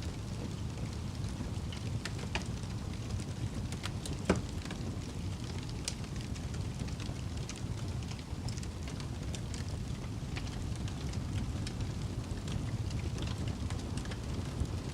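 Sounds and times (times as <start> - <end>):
fire crackling and popping: 0.0 - 14.9
flames rushing: 0.1 - 14.9.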